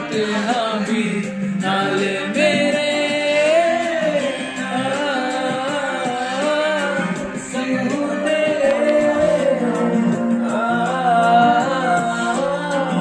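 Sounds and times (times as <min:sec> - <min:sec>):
instrumental accompaniment: 0:00.0 - 0:13.0
person singing: 0:00.0 - 0:13.0.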